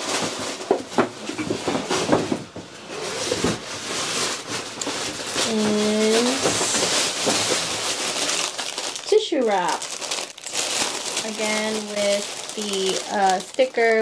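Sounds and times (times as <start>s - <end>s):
paper bag rustling: 0.0s - 14.0s.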